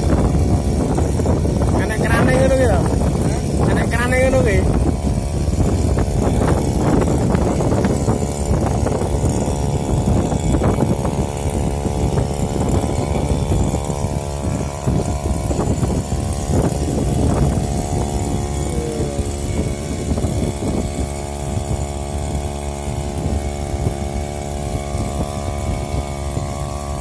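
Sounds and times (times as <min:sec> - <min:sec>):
small water pump engine running: 0:00.0 - 0:27.0.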